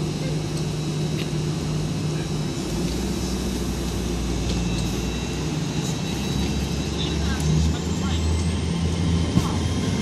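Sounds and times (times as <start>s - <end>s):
deep engine rumble: 0.0s - 10.0s
train diesel engines humming: 0.0s - 10.0s.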